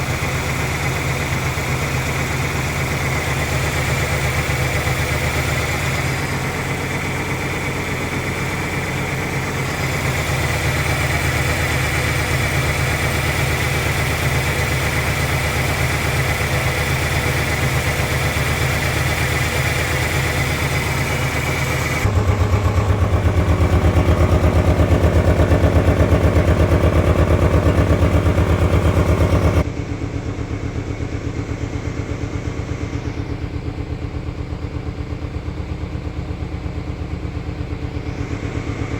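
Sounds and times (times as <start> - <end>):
engine idling roughly: 0.0 - 38.9.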